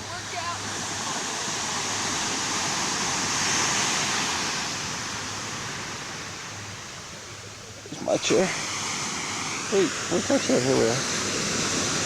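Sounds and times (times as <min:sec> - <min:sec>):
wave breaking on beach: 0:00.0 - 0:12.0.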